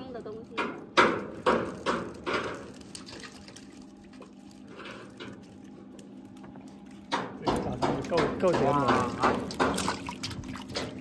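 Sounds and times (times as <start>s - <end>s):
water lapping and trickling: 0.0s - 11.0s
fish thrashing and splashing: 1.1s - 11.0s.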